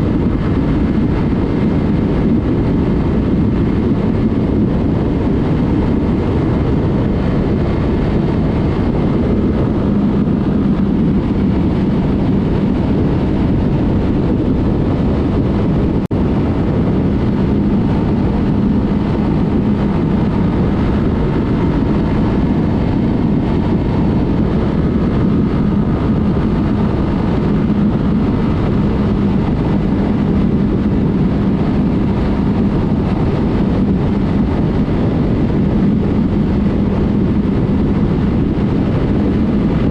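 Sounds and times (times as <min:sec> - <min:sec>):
constant rush of noise: 0:00.0 - 0:39.9
motorcycle engine cruising: 0:00.0 - 0:39.9.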